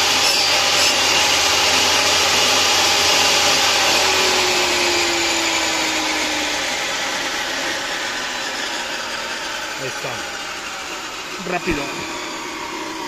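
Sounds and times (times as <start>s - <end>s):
table saw cutting wood: 0.0s - 13.0s.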